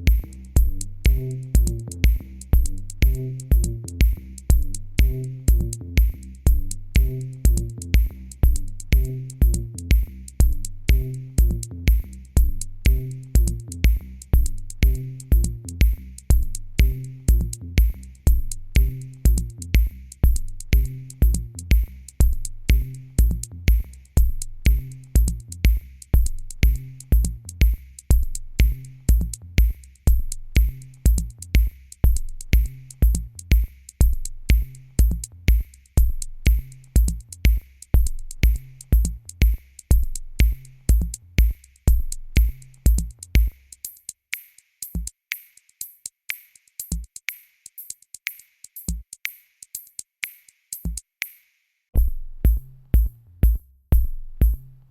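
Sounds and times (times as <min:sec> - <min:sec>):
electronic music with drum beat: 0:00.0 - 0:54.8.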